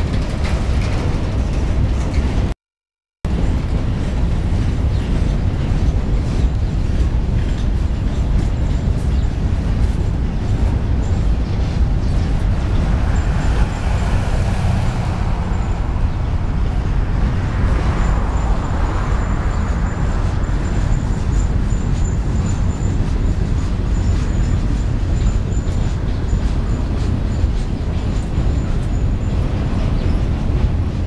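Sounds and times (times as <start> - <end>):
freight train wheels rumbling: 0.0 - 2.6, 3.3 - 31.0.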